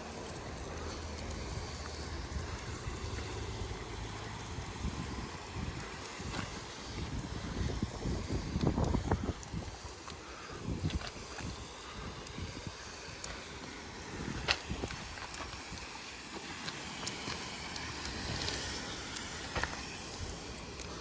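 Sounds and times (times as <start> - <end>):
pressure washer water spraying: 0.0 - 21.0.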